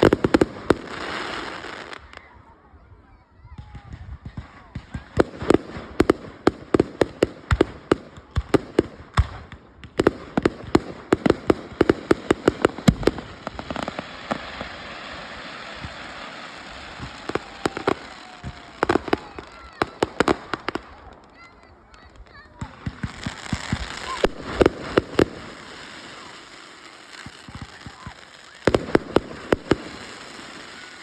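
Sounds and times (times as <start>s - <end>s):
fireworks hissing: 0.0s - 2.3s, 4.9s - 31.0s
fireworks bangs: 0.0s - 2.4s, 3.5s - 31.0s.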